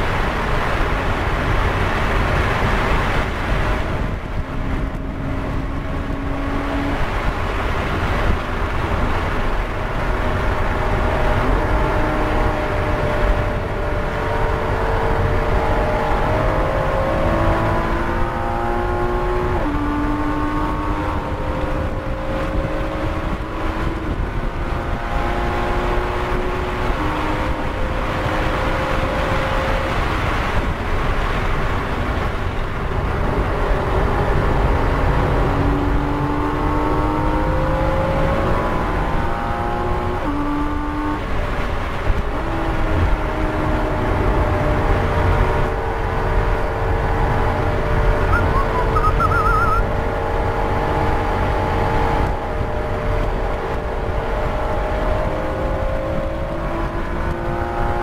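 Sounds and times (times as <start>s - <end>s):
car engine accelerating hard: 0.0s - 58.0s
road and wind rumble: 0.0s - 58.0s.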